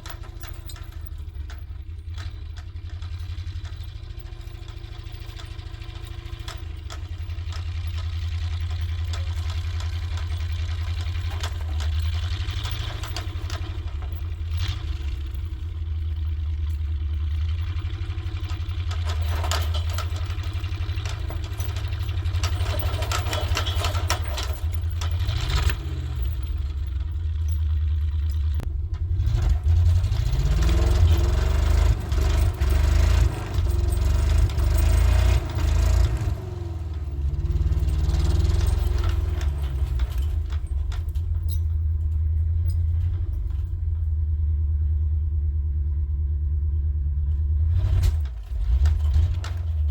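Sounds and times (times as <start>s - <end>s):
pickup engine revving: 0.0s - 44.9s, 47.4s - 49.9s.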